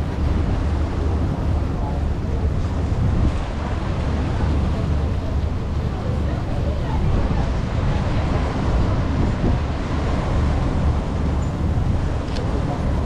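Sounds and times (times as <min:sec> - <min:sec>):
boat engine drone: 0:00.0 - 0:13.0
wind buffeting microphone: 0:00.0 - 0:13.0.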